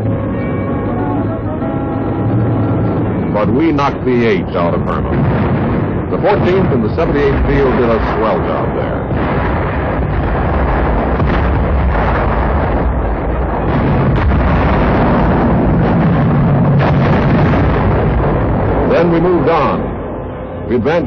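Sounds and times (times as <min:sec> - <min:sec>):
artillery barrage rumbling: 0:00.0 - 0:21.0
sharp explosion blasts: 0:02.6 - 0:21.0.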